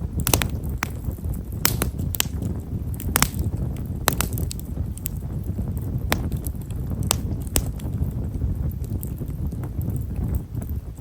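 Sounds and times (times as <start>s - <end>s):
campfire crackling: 0.0s - 11.0s
low fire rumble: 0.0s - 11.0s.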